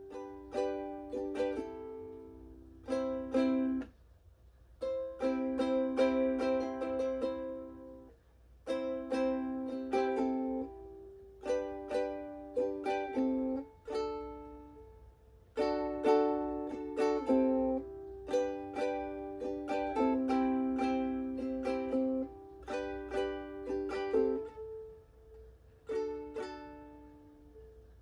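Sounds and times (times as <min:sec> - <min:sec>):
ukulele chords strummed and picked: 0:00.0 - 0:28.0.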